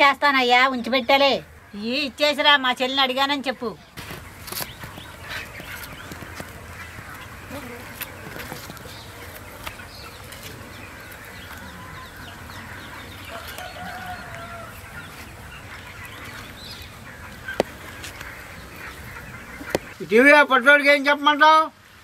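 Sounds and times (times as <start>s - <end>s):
faint outdoor ambience: 0.0s - 22.0s
hens clucking: 0.0s - 22.0s.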